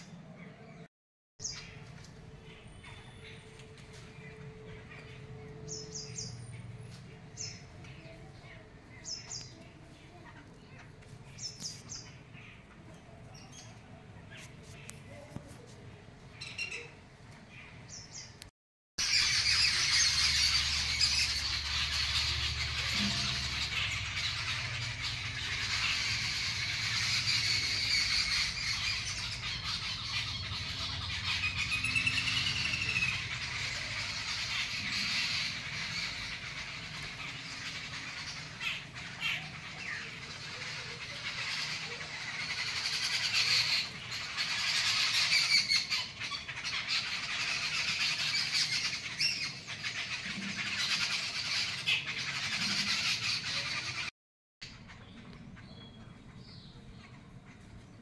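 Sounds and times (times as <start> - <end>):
birds chirping in trees: 0.0 - 15.3, 15.9 - 58.0.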